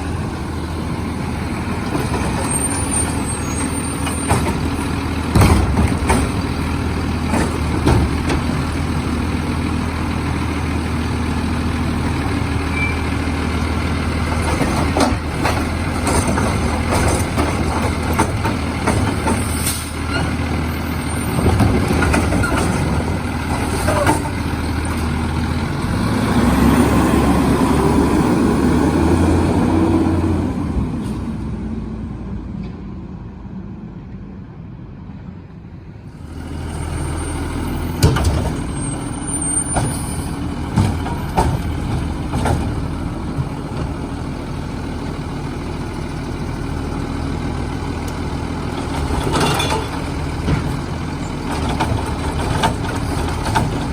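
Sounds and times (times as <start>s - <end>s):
garbage truck engine running: 0.0s - 31.7s, 36.1s - 53.9s.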